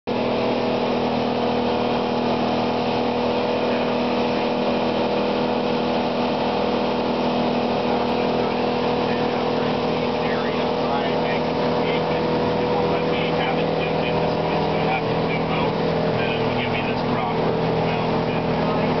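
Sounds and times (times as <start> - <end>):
outboard motor drone: 0.0 - 19.0
wake rushing: 0.1 - 19.0
wind: 0.1 - 19.0.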